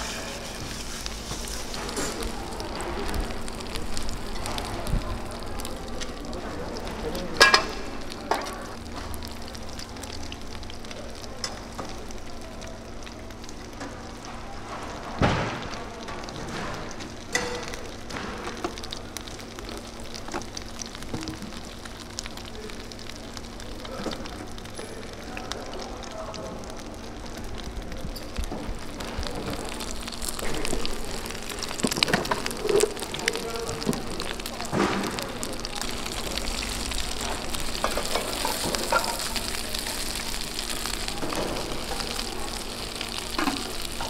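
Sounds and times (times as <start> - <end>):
food sizzling in oil: 0.0 - 15.0, 15.6 - 44.0.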